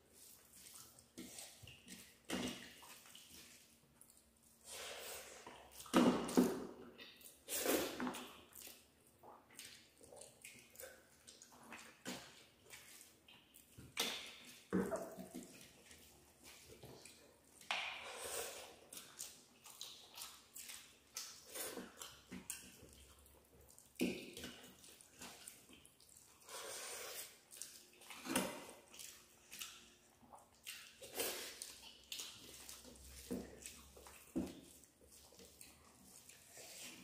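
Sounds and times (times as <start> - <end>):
wet chewing and lip-smacking: 0.1 - 4.7, 5.3 - 26.6, 27.2 - 37.0.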